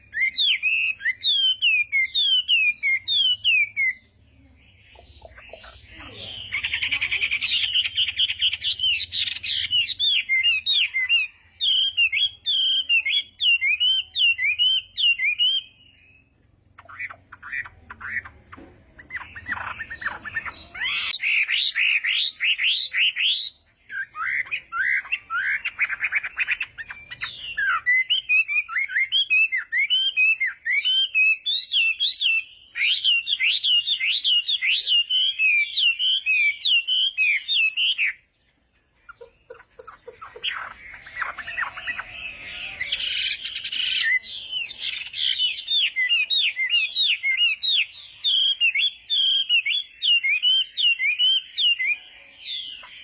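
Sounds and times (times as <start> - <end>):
songbird singing whistled notes: 0.0 - 38.3, 39.1 - 53.0.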